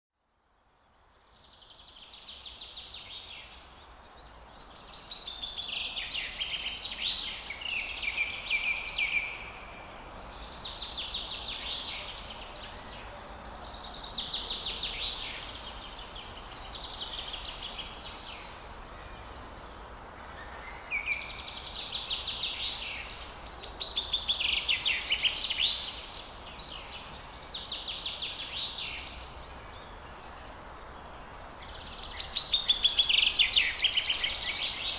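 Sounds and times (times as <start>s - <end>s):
faint background hiss: 0.2s - 34.9s.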